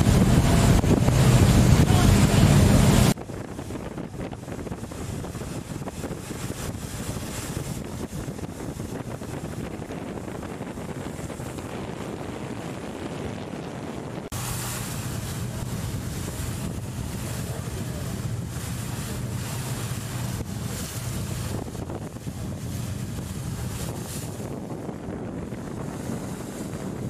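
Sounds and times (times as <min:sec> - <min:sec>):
boat engine humming: 0:00.0 - 0:27.0
rush of wind and water: 0:00.0 - 0:27.0
wind buffeting microphone: 0:00.0 - 0:27.0.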